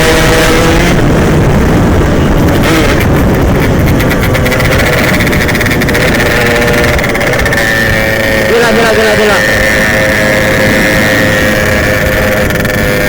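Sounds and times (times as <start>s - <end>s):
two-stroke engine running hard: 0.0s - 13.0s
wind rush over microphone: 0.0s - 13.0s.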